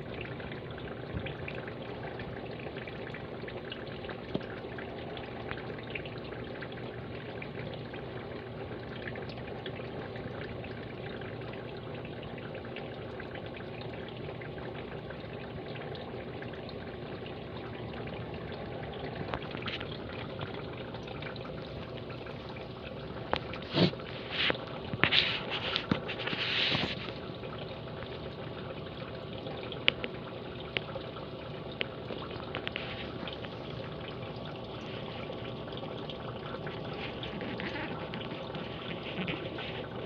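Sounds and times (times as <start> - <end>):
water trickling: 0.0 - 40.0.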